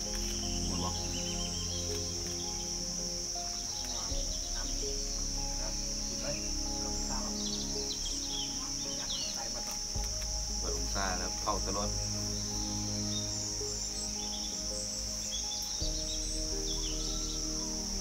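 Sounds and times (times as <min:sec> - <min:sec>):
bird chirps: 0:00.0 - 0:18.0
insects droning: 0:00.0 - 0:18.0.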